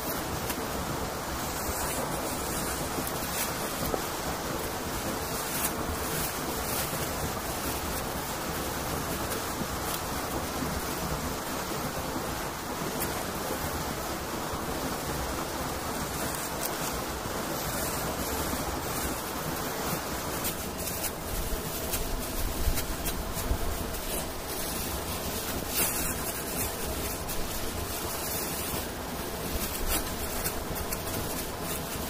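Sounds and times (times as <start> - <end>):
leaves rustling and crackling: 0.0 - 32.0
steady rushing noise: 0.0 - 32.0.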